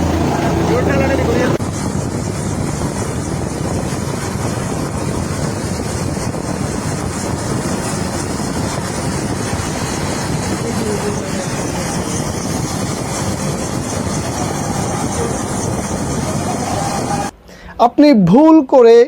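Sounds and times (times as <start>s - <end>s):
helicopter engine and rotor: 0.0s - 17.3s.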